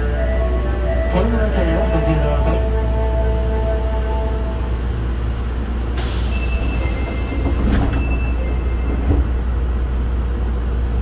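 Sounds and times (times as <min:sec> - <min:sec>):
subway car rumble: 0:00.0 - 0:11.0.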